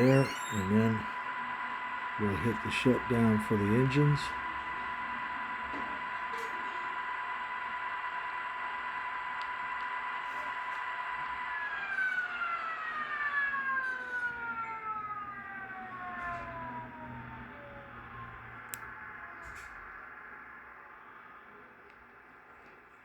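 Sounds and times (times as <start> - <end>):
model train turbine whine: 0.0 - 23.0.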